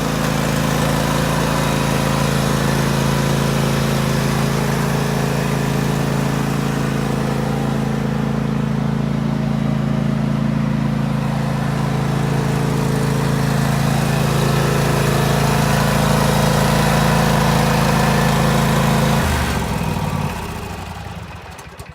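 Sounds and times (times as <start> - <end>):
lawn tractor engine running: 0.0 - 21.9.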